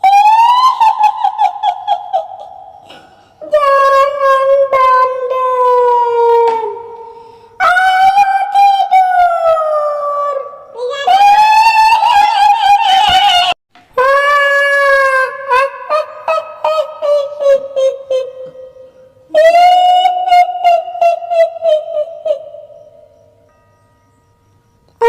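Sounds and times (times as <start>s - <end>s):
woman wailing ghostly: 0.0s - 22.9s.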